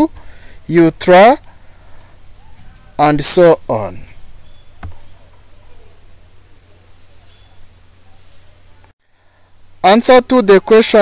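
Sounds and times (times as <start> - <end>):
high-pitched pulsing chirping: 0.0 - 11.0.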